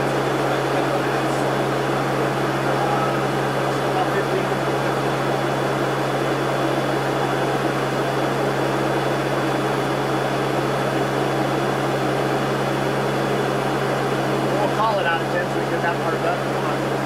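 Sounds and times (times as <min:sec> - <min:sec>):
constant rush of noise: 0:00.0 - 0:17.0
turboprop engines droning: 0:00.0 - 0:17.0.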